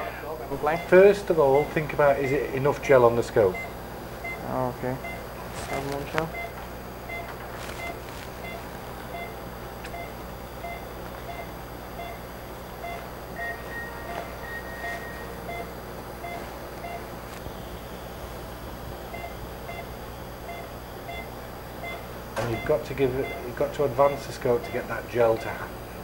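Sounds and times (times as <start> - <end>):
longer higher monitor tone: 0.0 - 21.8
patient monitor beeping: 0.0 - 25.7
low equipment hum: 0.0 - 26.0.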